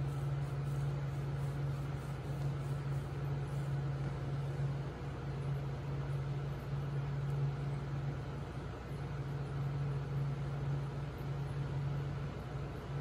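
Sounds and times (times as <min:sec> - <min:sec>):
aquarium equipment humming: 0:00.0 - 0:13.0.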